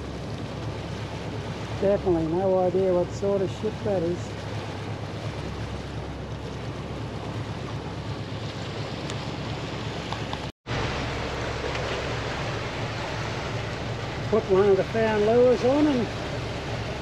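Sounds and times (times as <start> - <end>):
boat engine hum: 0.0 - 17.0
water rushing from wake: 0.0 - 17.0.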